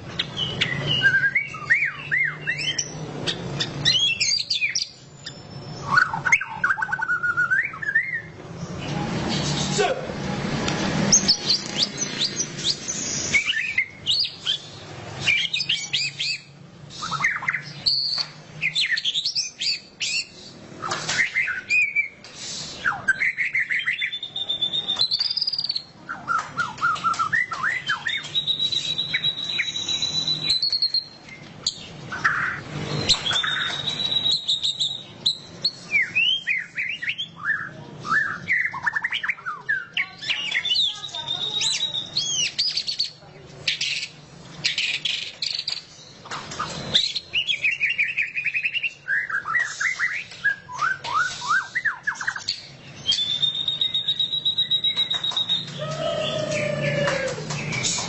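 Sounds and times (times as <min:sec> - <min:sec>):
bird singing chirps and trills: 0:00.0 - 0:09.7, 0:11.1 - 0:22.2, 0:22.8 - 0:58.0.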